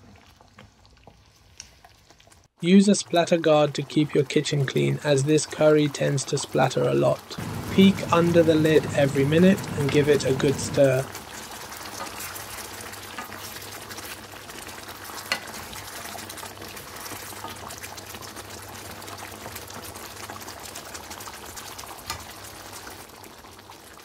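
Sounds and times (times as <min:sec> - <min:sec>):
curry sizzling in oil: 0:00.0 - 0:02.6, 0:07.3 - 0:24.0.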